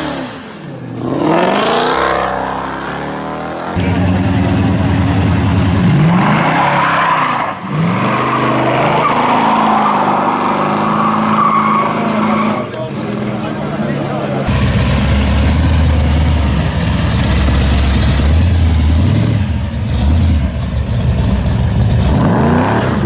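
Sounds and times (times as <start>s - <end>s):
car engine revving and accelerating: 0.0s - 12.6s, 14.5s - 23.0s.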